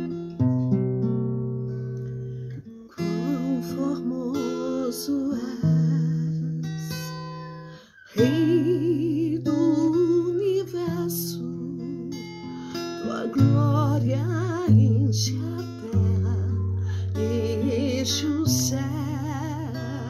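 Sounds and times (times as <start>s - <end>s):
acoustic guitar strumming: 0.0s - 20.0s
woman singing with vibrato: 3.0s - 20.0s.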